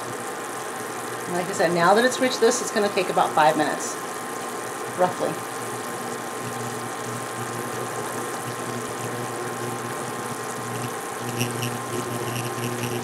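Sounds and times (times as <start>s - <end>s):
electric cooktop hum: 0.0s - 13.0s
syrup bubbling in a saucepan: 0.0s - 13.0s.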